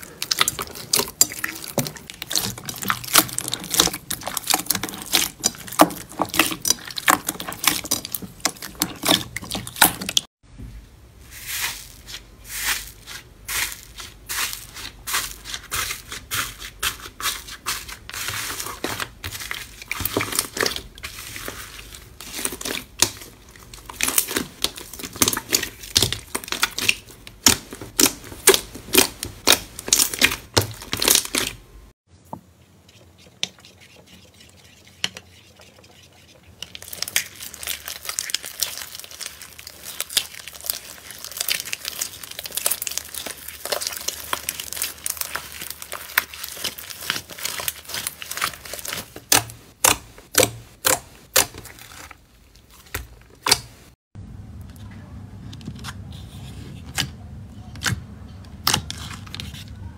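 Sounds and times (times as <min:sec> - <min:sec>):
hands squishing slime: 0:00.0 - 0:10.3, 0:11.4 - 0:31.7, 0:33.0 - 0:53.9.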